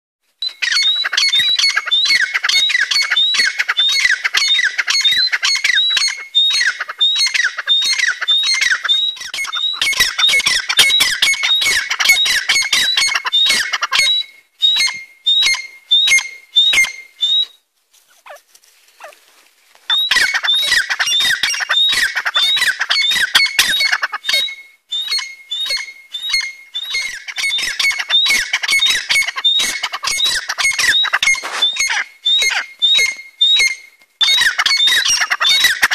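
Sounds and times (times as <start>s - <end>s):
birds calling shrilly: 0.4s - 19.2s, 19.9s - 35.9s.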